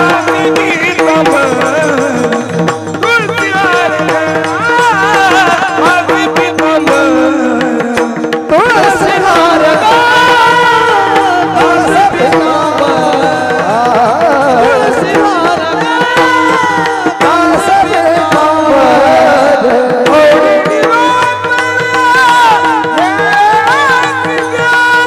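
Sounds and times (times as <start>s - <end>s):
hand drum: 0.0s - 25.0s
person singing devotional melody: 0.0s - 25.0s.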